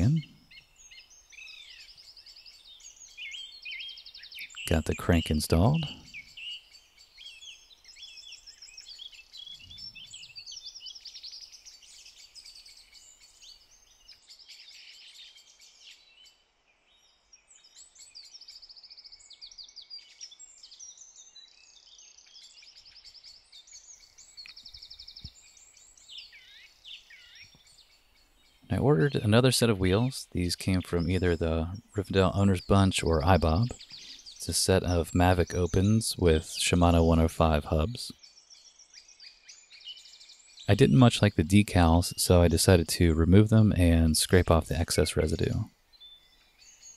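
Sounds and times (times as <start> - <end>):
small birds chirping and trilling: 0.0 - 46.9.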